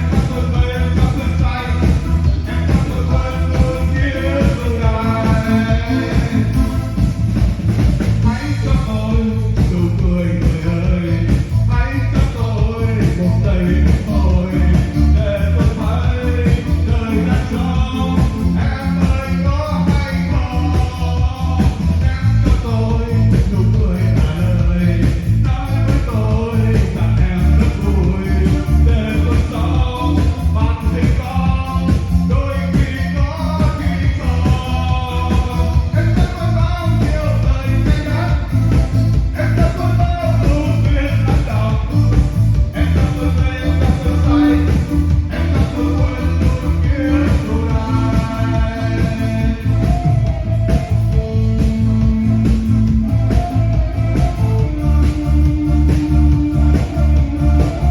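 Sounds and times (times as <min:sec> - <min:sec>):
backing music with heavy beat: 0:00.0 - 0:57.9.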